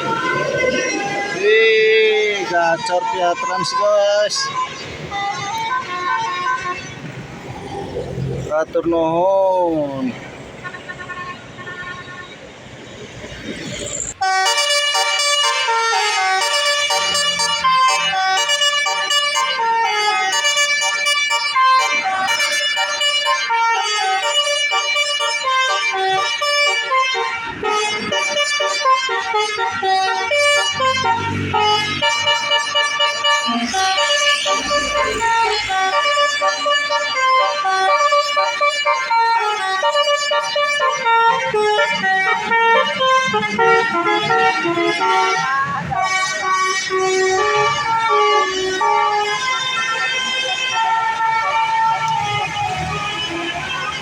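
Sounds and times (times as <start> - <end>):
multi-tone bus horn melody: 0.0 - 7.3, 10.6 - 12.4, 14.2 - 54.0.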